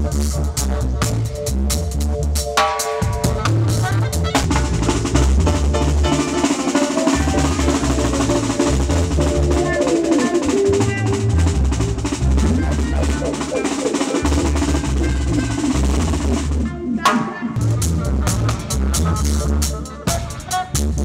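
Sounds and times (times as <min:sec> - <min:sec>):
pulsing bass line: 0:00.0 - 0:17.0, 0:17.6 - 0:20.1
drum kit: 0:00.0 - 0:21.0
keyboards: 0:00.0 - 0:21.0.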